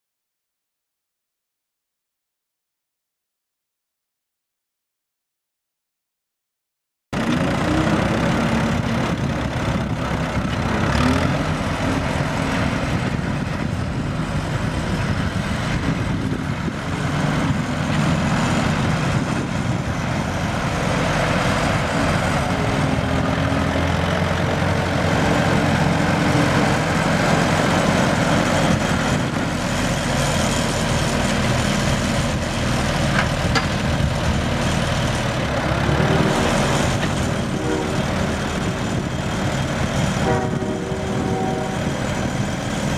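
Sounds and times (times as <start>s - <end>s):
tractor engine running: 7.2s - 42.9s.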